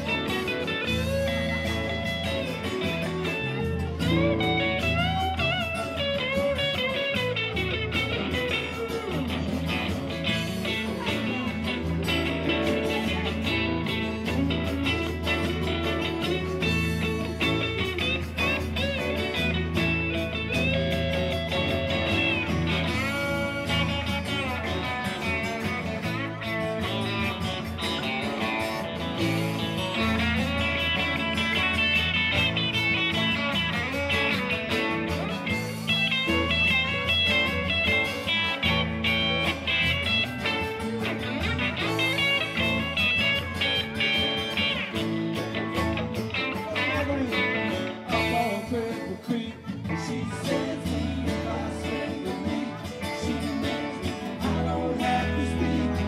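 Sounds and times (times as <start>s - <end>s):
plucked guitar: 0.0s - 56.0s
steady bass line: 0.0s - 56.0s.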